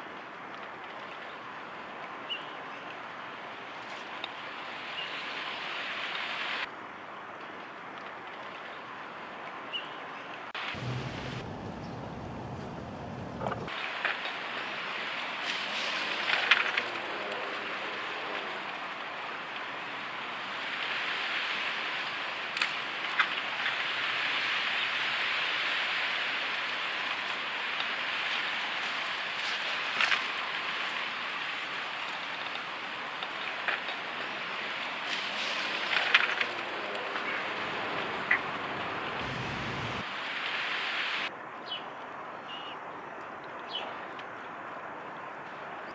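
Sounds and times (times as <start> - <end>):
lakeside ambient hiss: 0.0 - 45.9.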